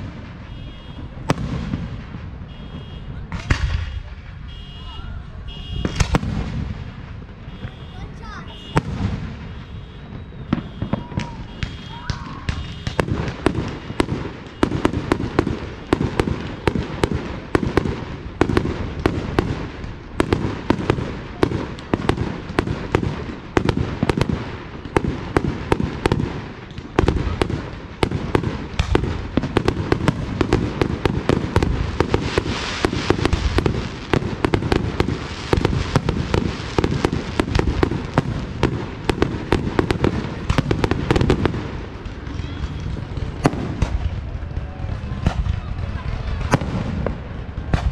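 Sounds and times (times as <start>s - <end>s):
crackling hiss of fireworks: 0.0s - 47.9s
fireworks booming and popping: 0.0s - 47.9s.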